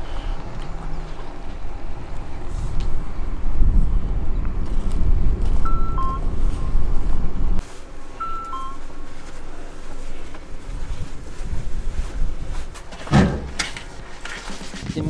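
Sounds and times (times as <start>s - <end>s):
wind buffeting microphone: 0.0s - 7.6s, 9.9s - 15.0s.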